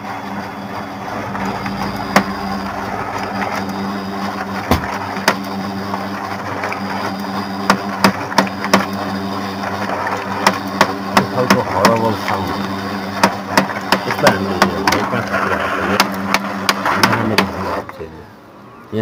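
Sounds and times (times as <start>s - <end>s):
printer motor humming: 0.0s - 19.0s.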